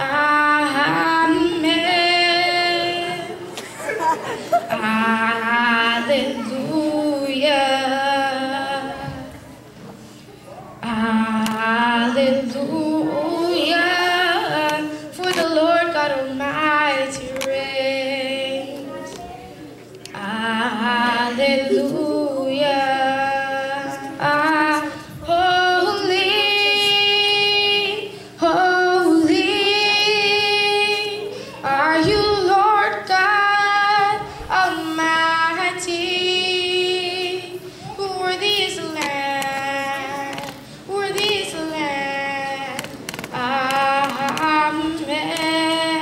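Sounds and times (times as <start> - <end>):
woman singing slow melody: 0.0 - 3.5, 4.6 - 9.4, 10.8 - 18.9, 20.0 - 46.0.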